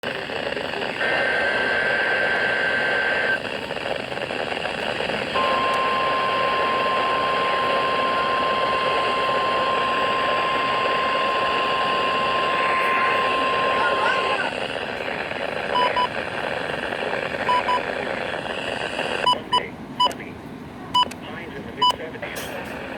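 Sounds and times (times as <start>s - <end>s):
hissing static: 0.0s - 19.7s
steady weather alert tone: 0.1s - 20.4s, 21.0s - 22.9s.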